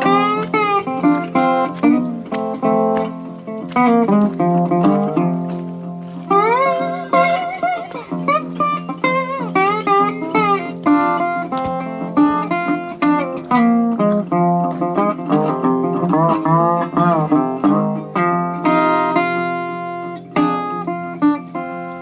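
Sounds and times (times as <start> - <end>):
blues guitar playing: 0.0 - 22.0.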